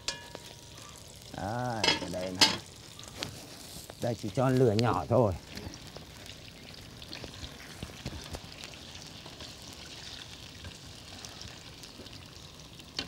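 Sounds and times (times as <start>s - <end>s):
small oil crackles: 0.0s - 13.0s
tofu sizzling in hot oil: 0.0s - 13.0s.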